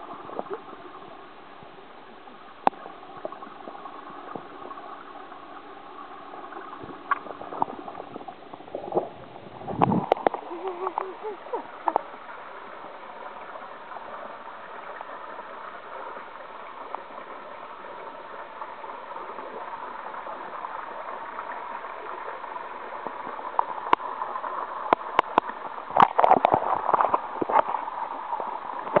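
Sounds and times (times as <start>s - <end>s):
muffled underwater hissing wash: 0.0s - 29.0s
water splashing and gurgling: 0.0s - 29.0s.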